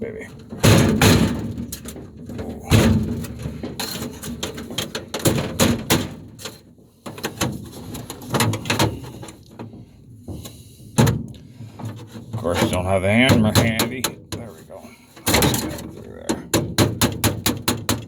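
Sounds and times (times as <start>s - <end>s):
metallic bangs and scrapes: 0.2s - 18.0s.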